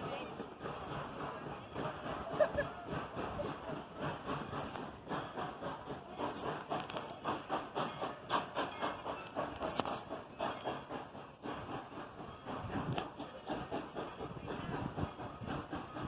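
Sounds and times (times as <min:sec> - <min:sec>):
steam train running: 0:00.0 - 0:16.0.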